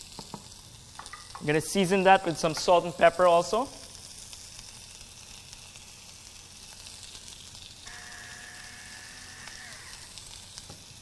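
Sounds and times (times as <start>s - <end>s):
meat sizzling in a bowl: 0.0s - 11.0s.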